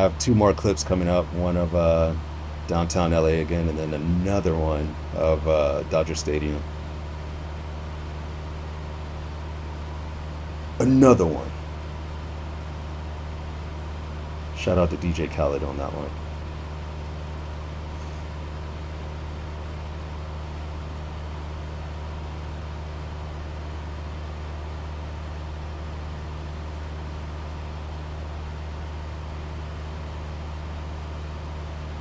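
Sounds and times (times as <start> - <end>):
air noise: 0.0 - 32.0
small plane engine drone: 0.0 - 32.0.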